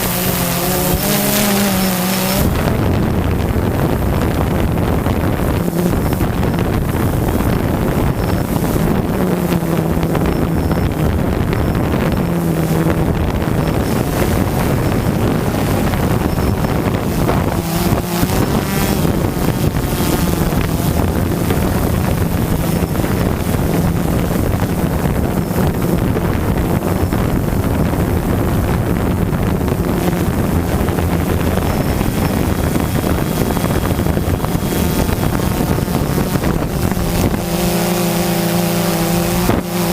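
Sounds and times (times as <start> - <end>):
drone propellers buzzing: 0.0 - 39.9
wind rushing over microphone: 0.0 - 39.9.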